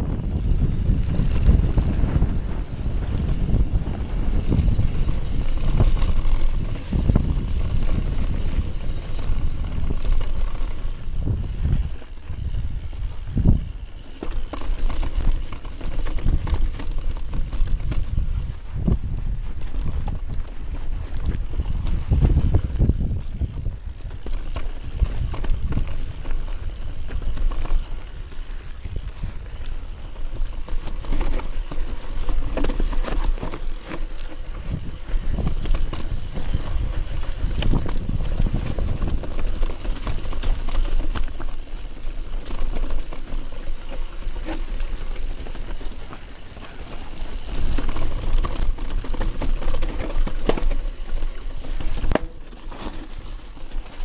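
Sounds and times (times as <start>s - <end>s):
bike rattling over bumps: 0.0s - 54.0s
wind rumbling on microphone: 0.0s - 54.0s
tyres on loose stones: 0.3s - 54.0s.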